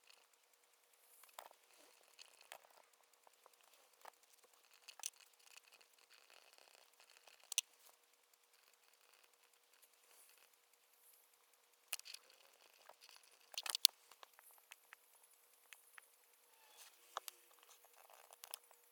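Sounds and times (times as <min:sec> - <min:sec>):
small clicks and taps: 0:00.0 - 0:18.9.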